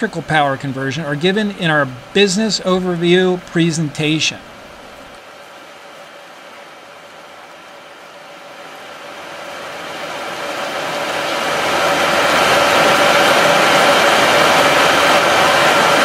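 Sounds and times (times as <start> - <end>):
water boiling hard in a tank: 0.0 - 4.2, 5.0 - 16.0
faint steady hum: 0.0 - 16.0.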